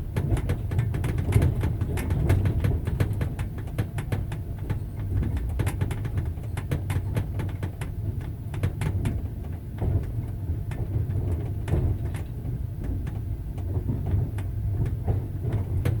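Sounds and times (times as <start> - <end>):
train rumble: 0.0 - 16.0
wheels clacking on rails: 0.0 - 16.0.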